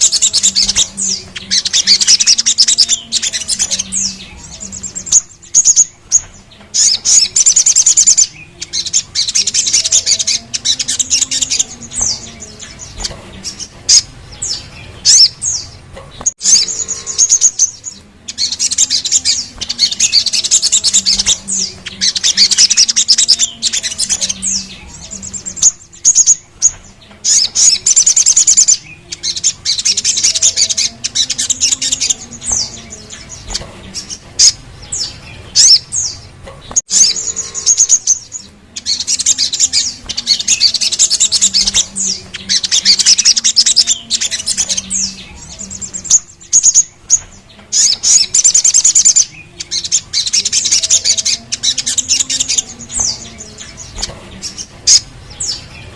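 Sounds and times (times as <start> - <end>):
bird singing rapid high trills: 0.0 - 55.9.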